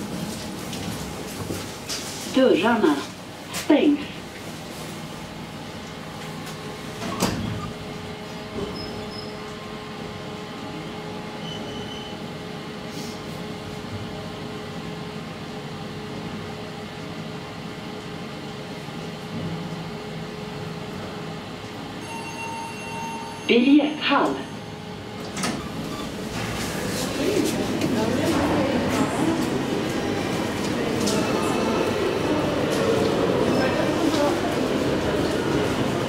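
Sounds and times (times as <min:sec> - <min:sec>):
elevator car humming: 0:04.2 - 0:36.0.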